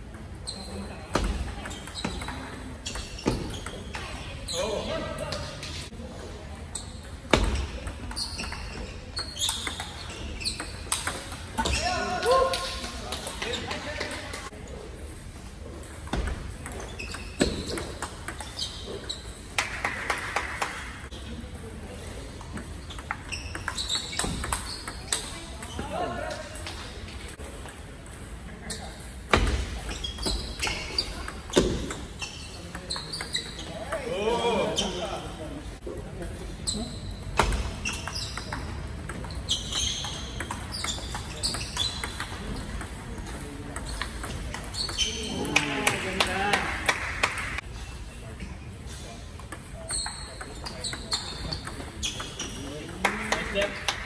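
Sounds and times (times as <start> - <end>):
shoes squeaking on floor: 0.3 - 5.9, 6.7 - 14.5, 15.6 - 19.6, 22.1 - 27.4, 28.6 - 35.3, 36.6 - 46.5, 48.4 - 54.0.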